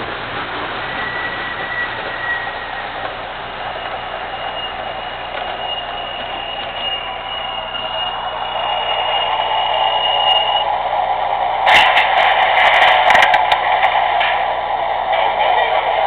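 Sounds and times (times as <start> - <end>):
model train rushing rumble: 0.0 - 16.0
thin high whine: 0.0 - 16.0.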